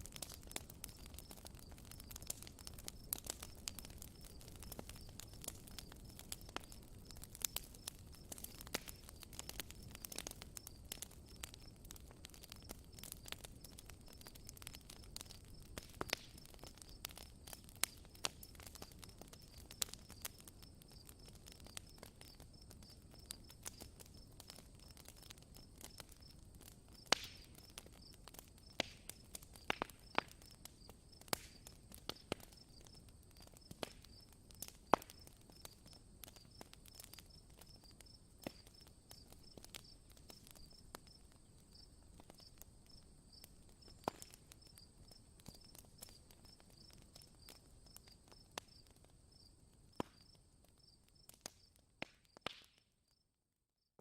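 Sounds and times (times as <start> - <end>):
campfire crackling and popping: 0.0 - 53.2.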